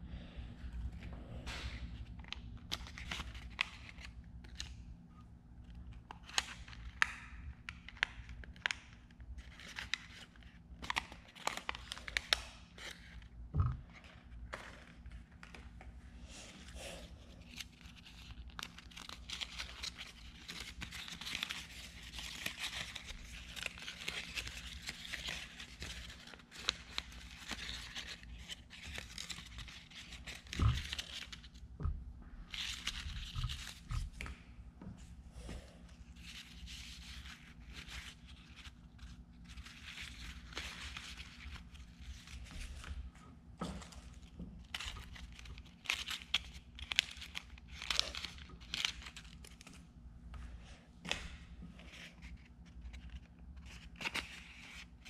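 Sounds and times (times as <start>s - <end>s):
paper crinkling and rustling: 0.9s - 4.9s, 5.6s - 16.0s, 17.4s - 31.8s, 32.4s - 34.6s, 36.0s - 50.5s, 51.1s - 55.0s.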